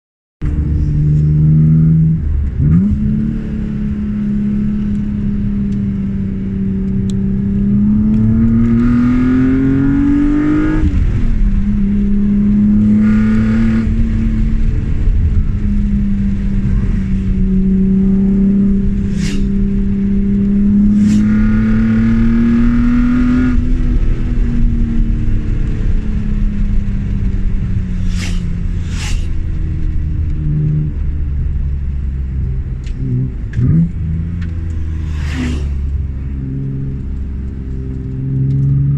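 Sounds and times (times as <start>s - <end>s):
car engine accelerating: 0.4s - 38.9s.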